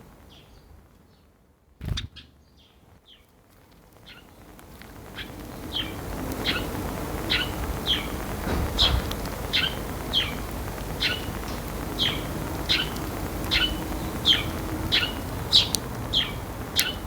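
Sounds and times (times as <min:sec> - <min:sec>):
background hiss: 0:00.0 - 0:17.0
sparrow chirping: 0:00.3 - 0:03.3, 0:04.0 - 0:17.0.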